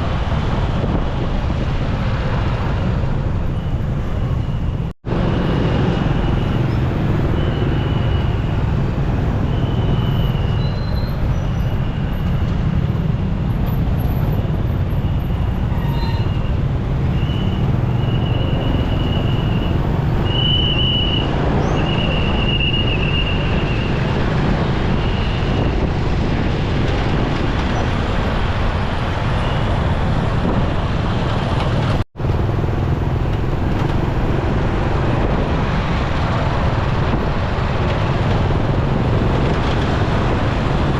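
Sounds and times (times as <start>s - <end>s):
motorcycle engine and road noise: 0.0s - 40.9s.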